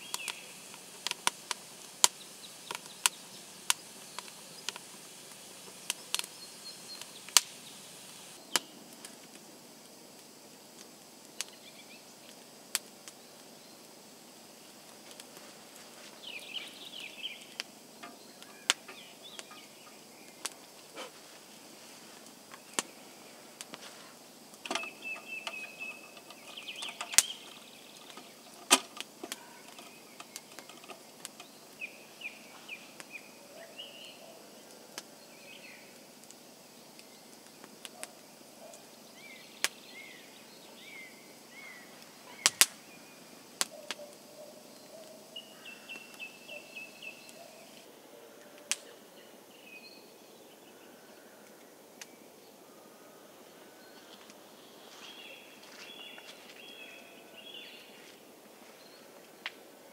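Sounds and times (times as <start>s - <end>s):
birds chirping: 0.0s - 8.8s, 14.7s - 36.0s, 36.8s - 59.9s
campfire crackling and popping: 0.0s - 49.1s, 51.4s - 52.4s, 53.4s - 56.7s, 58.1s - 59.9s.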